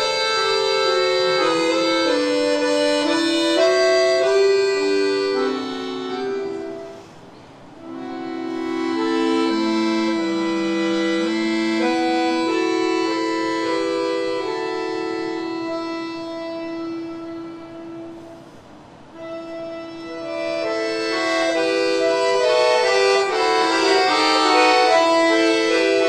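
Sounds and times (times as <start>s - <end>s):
accordion playing slow melody: 0.0s - 26.0s.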